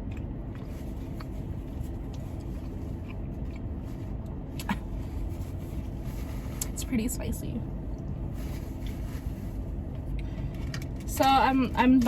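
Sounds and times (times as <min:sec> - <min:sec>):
car air conditioning humming: 0:00.0 - 0:12.0.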